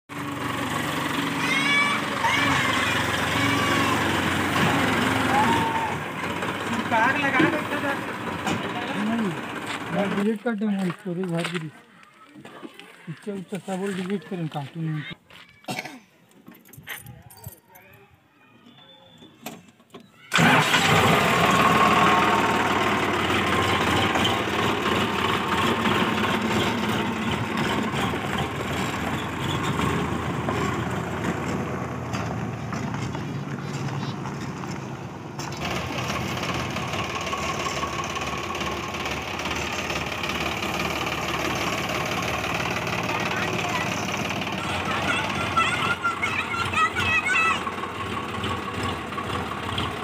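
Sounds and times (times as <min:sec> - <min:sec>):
tractor engine starting: 0:00.1 - 0:11.4, 0:20.3 - 0:50.0
tractor diesel engine running: 0:00.1 - 0:11.6, 0:20.3 - 0:50.0.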